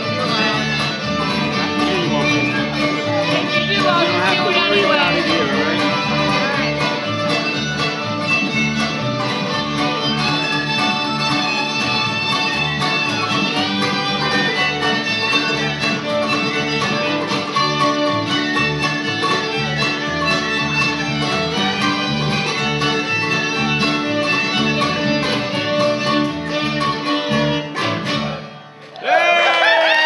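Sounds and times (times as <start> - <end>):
fiddle: 0.0 - 28.8
strummed acoustic guitars: 0.0 - 28.9
mandolin: 0.0 - 29.0
bass: 0.0 - 30.0.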